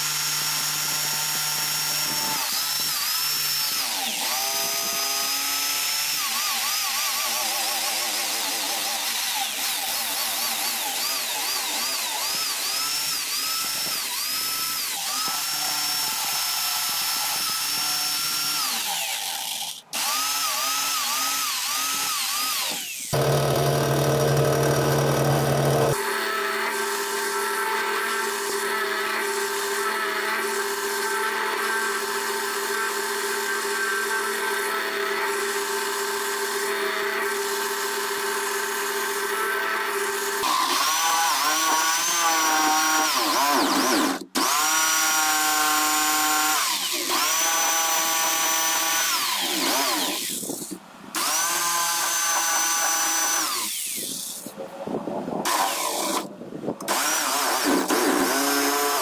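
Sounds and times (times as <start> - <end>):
drill press boring wood: 0.0 - 54.6, 55.5 - 59.0
electric jigsaw cutting wood: 0.0 - 54.6, 55.4 - 59.0.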